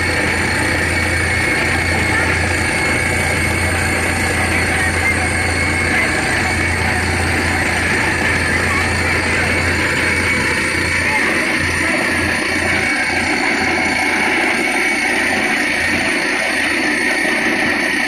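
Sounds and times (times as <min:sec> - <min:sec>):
drilling rig engine running: 0:00.0 - 0:18.0.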